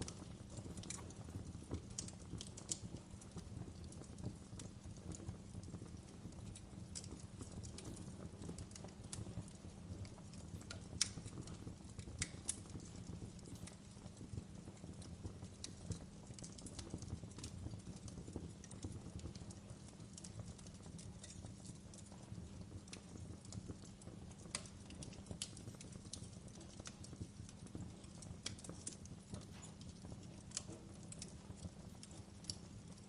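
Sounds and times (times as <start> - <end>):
low rumble of burning: 0.0 - 33.0
wood fire crackling and popping: 0.0 - 33.0.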